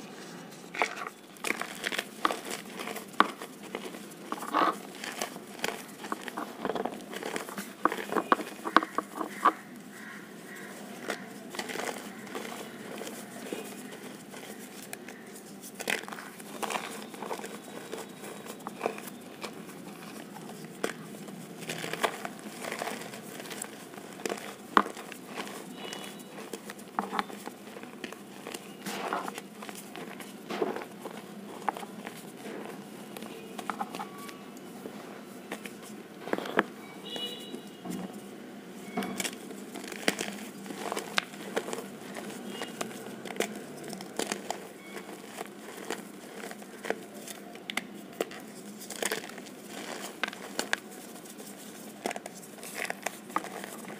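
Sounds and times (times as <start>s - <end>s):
chalk crunching by hand: 0.2s - 53.9s.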